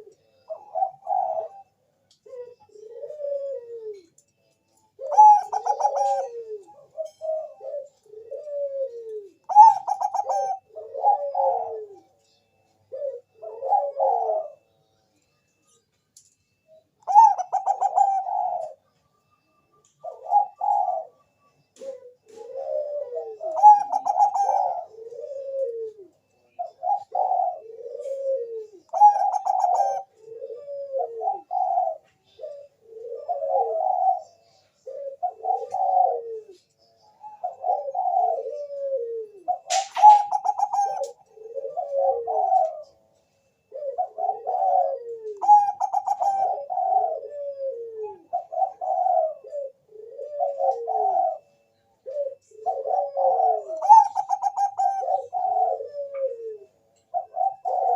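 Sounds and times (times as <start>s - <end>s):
dove cooing in rolling phrases: 0.0s - 14.8s, 16.5s - 57.9s.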